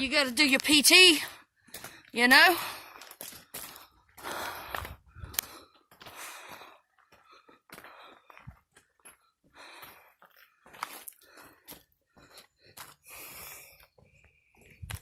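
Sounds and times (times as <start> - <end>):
person breathing hard: 1.4 - 14.8.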